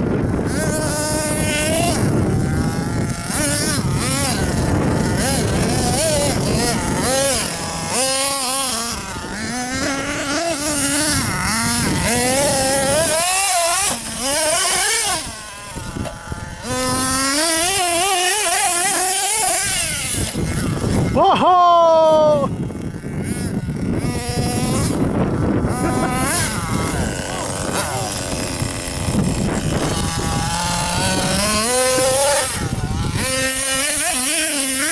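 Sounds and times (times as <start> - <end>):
rc truck motor revving: 0.0 - 34.9.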